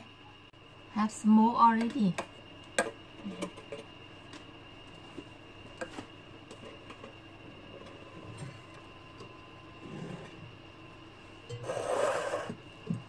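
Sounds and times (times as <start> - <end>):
faint hum with high tone: 0.0 - 13.0.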